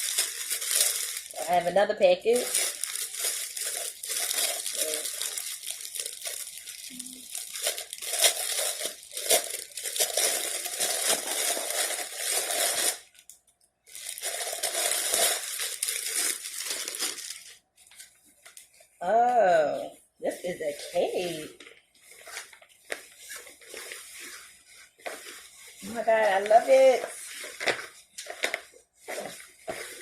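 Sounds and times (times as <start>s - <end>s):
packaging crinkling: 0.0s - 1.6s, 2.3s - 19.0s, 20.8s - 30.0s.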